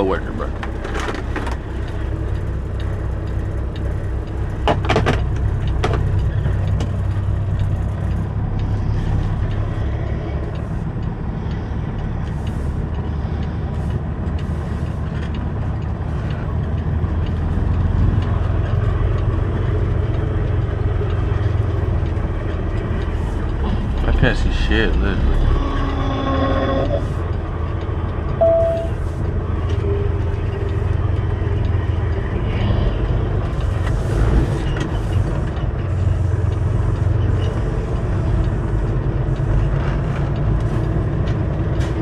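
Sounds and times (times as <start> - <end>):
truck diesel engine droning: 0.0 - 42.0.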